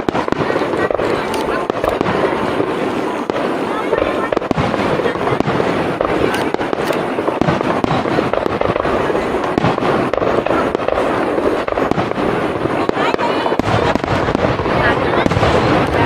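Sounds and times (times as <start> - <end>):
fireworks booming and crackling: 0.0 - 16.0.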